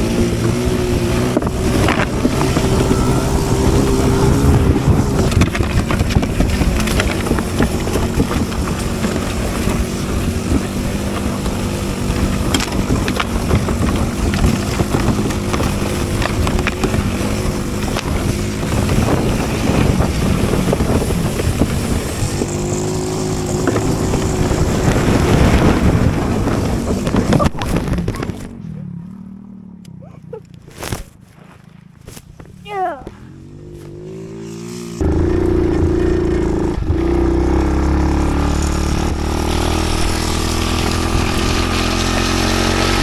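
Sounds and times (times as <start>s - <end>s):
small engine running: 0.0s - 27.4s, 33.3s - 43.0s
wind buffeting microphone: 0.0s - 28.7s, 32.2s - 43.0s.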